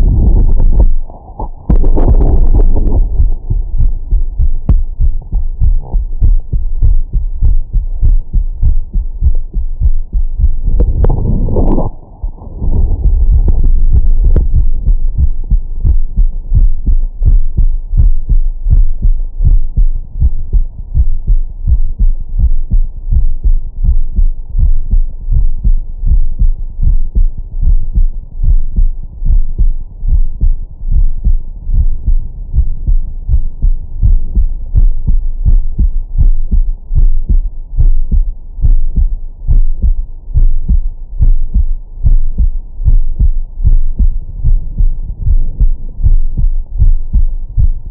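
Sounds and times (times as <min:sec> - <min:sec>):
heartbeat through stethoscope: 0:00.0 - 0:47.9.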